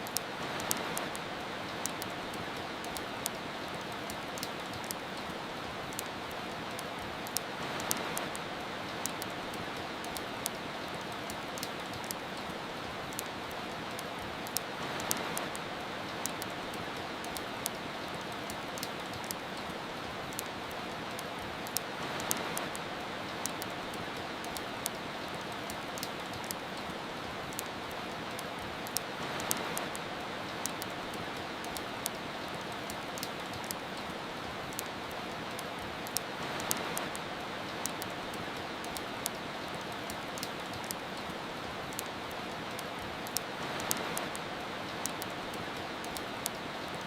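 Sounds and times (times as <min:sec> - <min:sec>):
rain hiss: 0:00.0 - 0:47.0
wood fire crackling: 0:00.0 - 0:47.0.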